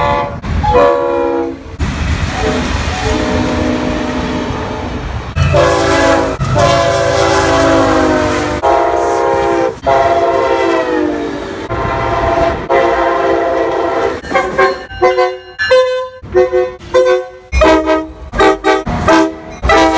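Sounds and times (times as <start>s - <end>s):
locomotive air horn blasts: 0.0s - 1.7s, 2.4s - 19.9s.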